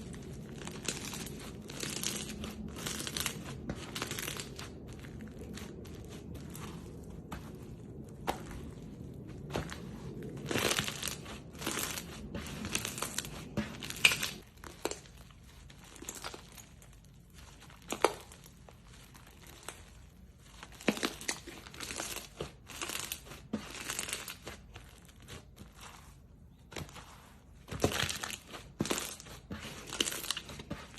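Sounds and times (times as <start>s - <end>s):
slime crackling: 0.0s - 30.9s.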